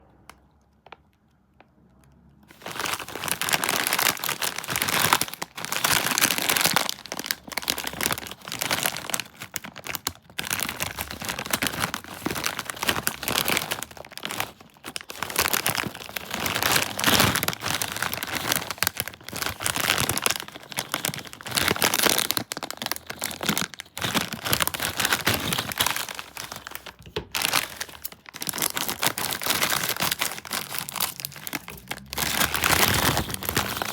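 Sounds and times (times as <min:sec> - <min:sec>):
snack bag crinkling: 0:02.5 - 0:33.9.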